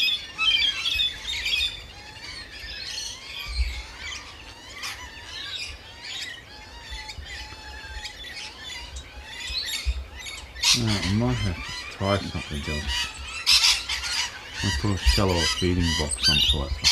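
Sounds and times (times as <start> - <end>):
birds chirping and twittering: 0.0 - 16.9.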